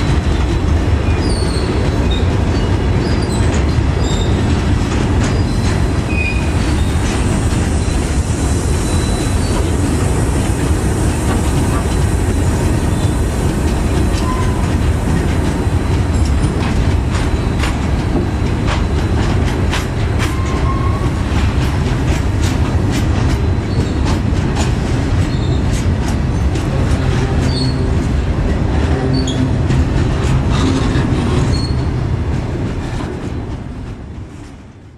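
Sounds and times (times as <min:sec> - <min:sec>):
freight train rumble: 0:00.0 - 0:34.9.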